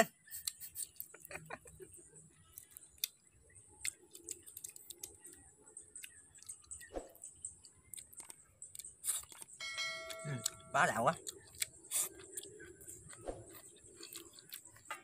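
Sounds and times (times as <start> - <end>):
person chewing: 0.0 - 6.9, 7.5 - 15.0.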